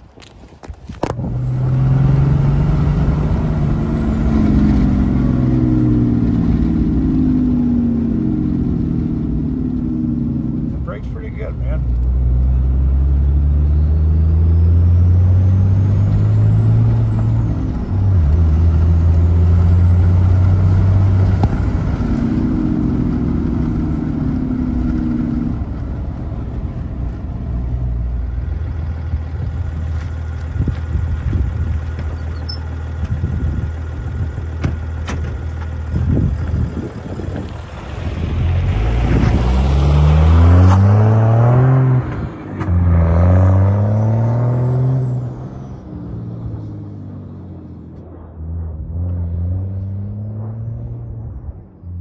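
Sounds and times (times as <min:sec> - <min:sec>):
diesel engine low drone: 0:00.0 - 0:52.0.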